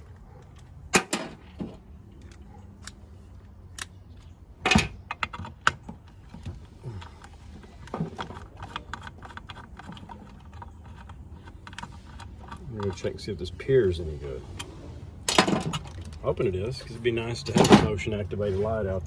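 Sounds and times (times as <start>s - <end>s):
plastic parts clicking and clattering: 0.0s - 16.4s, 17.2s - 18.1s.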